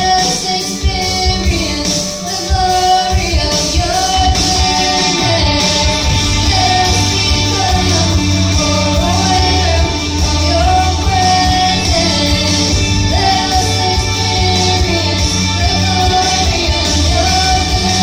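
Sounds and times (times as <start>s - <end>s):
band accompaniment: 0.0s - 18.0s
girls singing: 0.0s - 18.0s
bass line: 3.1s - 18.0s.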